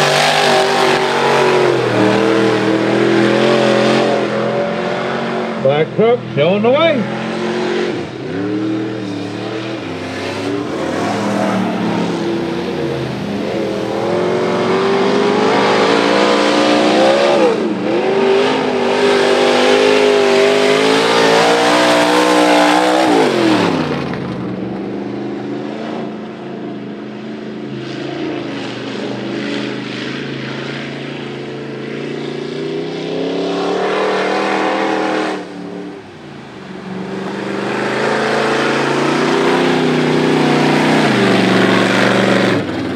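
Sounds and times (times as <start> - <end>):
pickup truck engines revving: 0.0 - 42.9.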